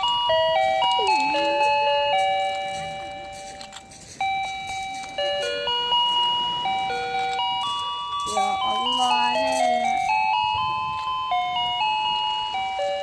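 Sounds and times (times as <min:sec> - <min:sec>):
electronic toy beeping melody: 0:00.0 - 0:13.0.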